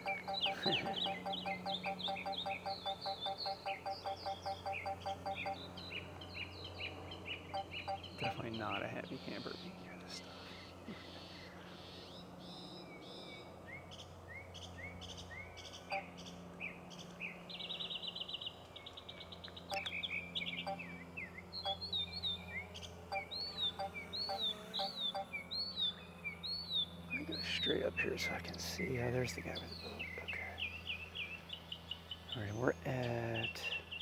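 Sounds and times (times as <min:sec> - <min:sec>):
bird chirping and trilling: 0:00.0 - 0:34.0.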